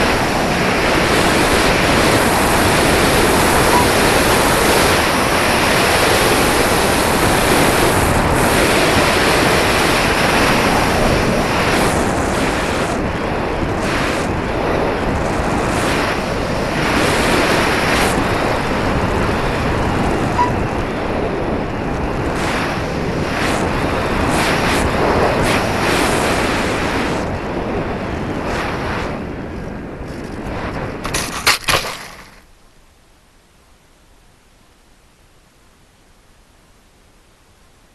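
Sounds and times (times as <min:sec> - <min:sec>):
wind rushing over microphone: 0:00.0 - 0:32.5.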